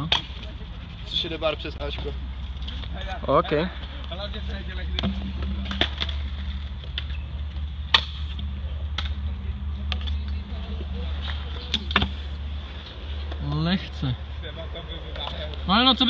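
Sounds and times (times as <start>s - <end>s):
scooter wheels rumbling on concrete: 0.0s - 15.7s.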